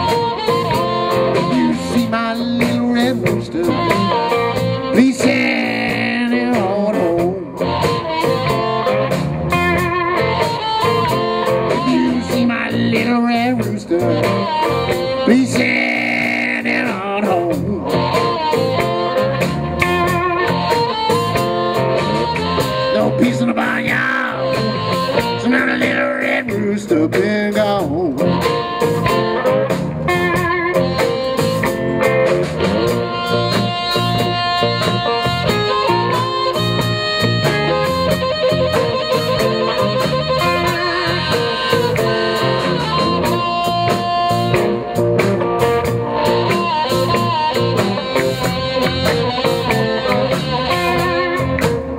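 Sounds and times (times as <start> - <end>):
blues harmonica bending notes: 0.0 - 51.9
drums: 0.0 - 51.9
electric guitar: 0.0 - 51.9.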